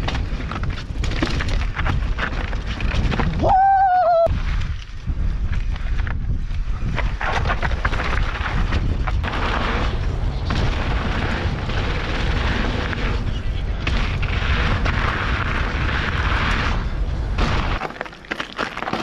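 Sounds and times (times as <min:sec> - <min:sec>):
tyres rumbling over rocks: 0:00.0 - 0:03.6, 0:04.3 - 0:19.0
wind buffeting microphone: 0:00.0 - 0:17.8.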